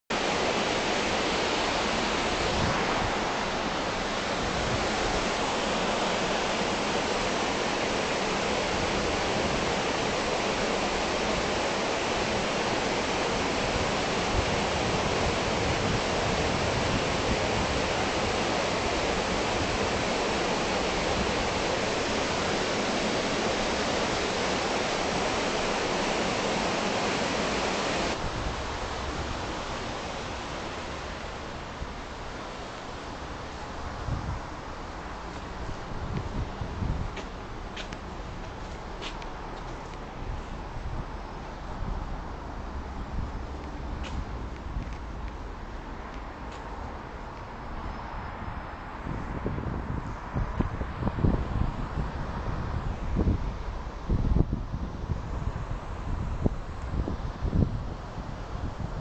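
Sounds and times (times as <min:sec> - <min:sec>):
water rushing down a weir: 0:00.1 - 0:49.4.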